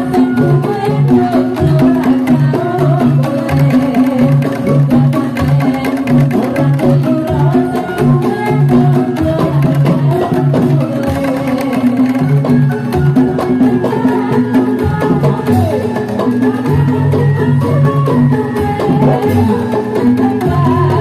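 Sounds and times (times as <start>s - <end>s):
hand-drum strokes: 0.0s - 21.0s.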